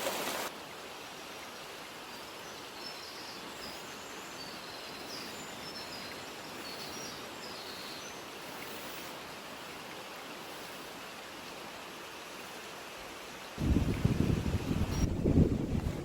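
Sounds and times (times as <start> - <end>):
rushing mountain ambience: 0.0 - 16.0.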